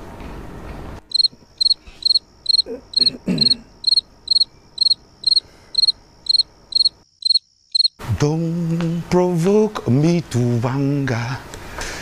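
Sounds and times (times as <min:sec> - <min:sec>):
crickets chirping: 0:01.0 - 0:10.9.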